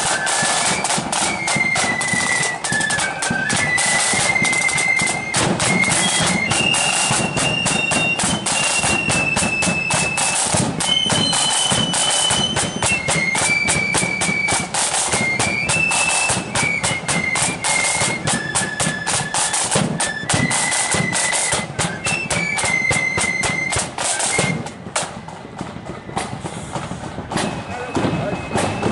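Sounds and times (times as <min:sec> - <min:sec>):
flutes playing high melody: 0:00.0 - 0:26.4, 0:27.2 - 0:28.9
rapid snare drum strokes: 0:00.0 - 0:28.9.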